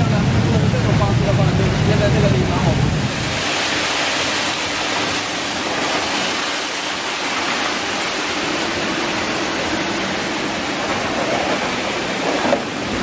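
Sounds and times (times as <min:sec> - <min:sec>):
water spraying from nozzles: 0:00.0 - 0:13.0.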